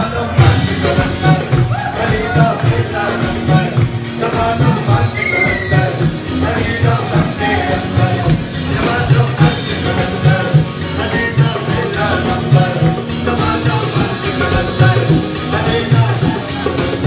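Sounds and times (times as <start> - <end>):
drums: 0.0 - 17.0
man singing into microphone: 0.0 - 17.0.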